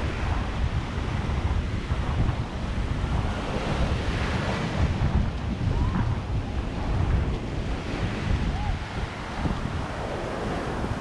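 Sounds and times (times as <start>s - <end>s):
small waves washing on sand: 0.0s - 11.0s
wind buffeting microphone: 0.0s - 11.0s.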